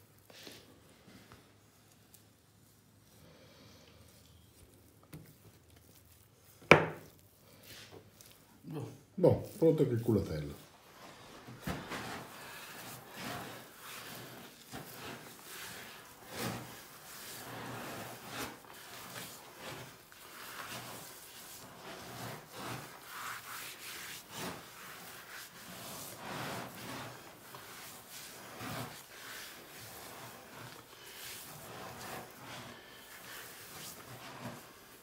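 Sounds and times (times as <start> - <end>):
hands rubbing raw meat: 1.2 - 35.0.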